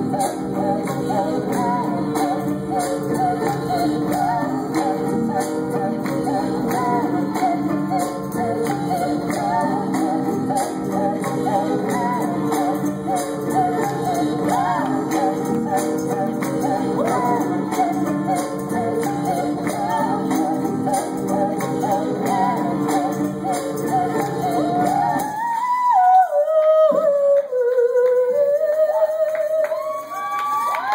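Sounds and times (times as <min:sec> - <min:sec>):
guitar: 0:00.0 - 0:26.0
layered singing: 0:00.0 - 0:29.8.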